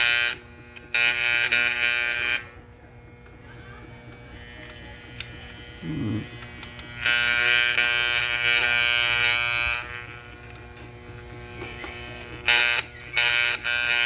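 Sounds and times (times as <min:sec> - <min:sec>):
electric hand mixer motor buzzing: 0:00.0 - 0:14.0.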